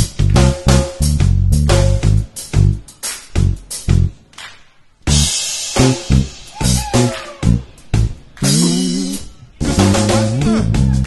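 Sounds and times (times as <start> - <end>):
bass guitar funk line: 0.0 - 4.1, 5.1 - 11.0
funk backing track: 0.0 - 4.3, 5.1 - 11.0.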